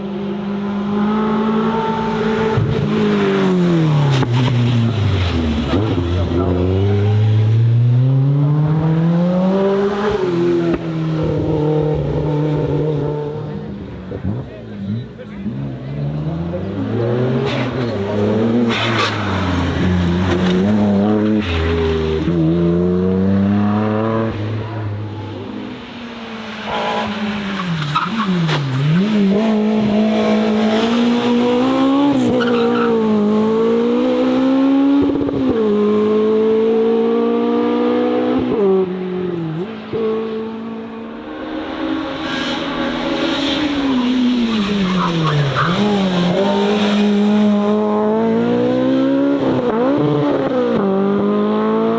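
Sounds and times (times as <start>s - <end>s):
race car engine accelerating: 0.4s - 51.9s.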